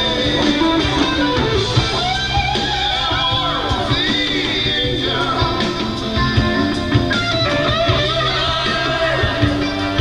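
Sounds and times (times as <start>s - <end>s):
electric guitar lead line: 0.0s - 10.0s
rock band playing: 0.0s - 10.0s.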